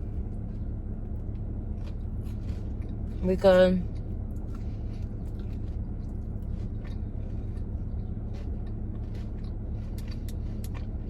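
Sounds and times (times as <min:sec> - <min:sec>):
crunchy chewing: 0:00.0 - 0:03.2, 0:03.8 - 0:11.0
steady low hum: 0:00.0 - 0:11.0.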